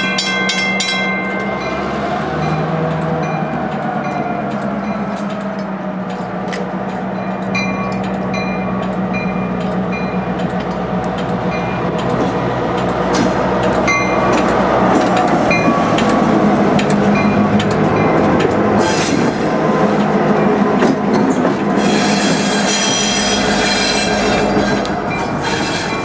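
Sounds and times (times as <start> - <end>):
diesel train engine drone: 0.0 - 26.0
train wheels clicking over rail joints: 0.3 - 26.0.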